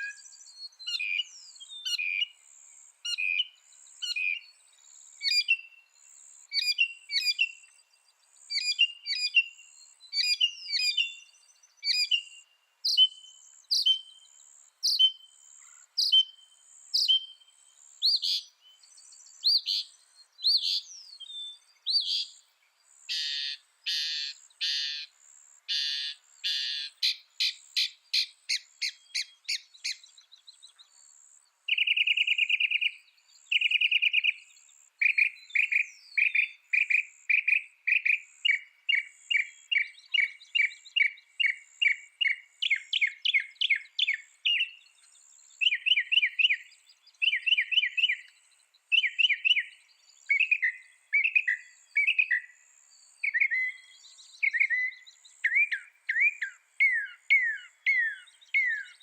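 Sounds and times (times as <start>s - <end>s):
mockingbird singing: 0.0s - 2.5s, 3.1s - 4.5s, 5.2s - 31.1s, 31.7s - 59.0s.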